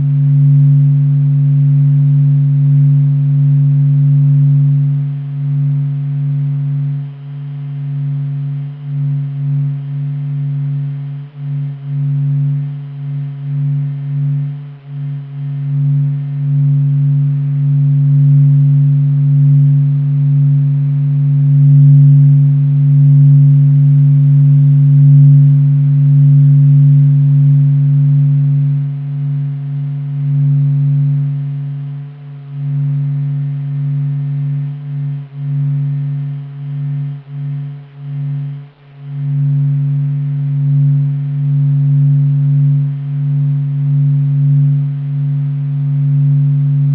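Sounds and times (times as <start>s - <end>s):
low steady drone of held tones: 0.0s - 46.9s.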